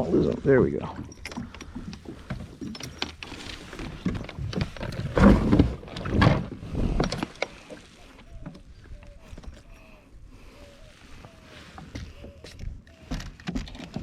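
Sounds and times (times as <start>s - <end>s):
knocks and clicks on kayak: 0.9s - 9.8s, 11.2s - 14.0s.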